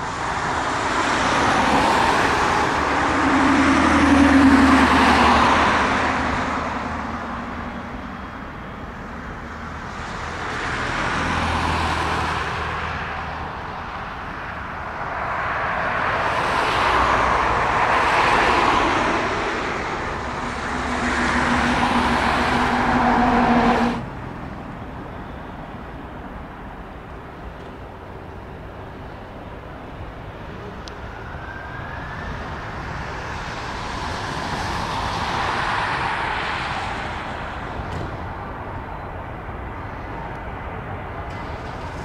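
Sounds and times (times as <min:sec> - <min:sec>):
jet engines whining and rumbling: 0:00.0 - 0:42.0.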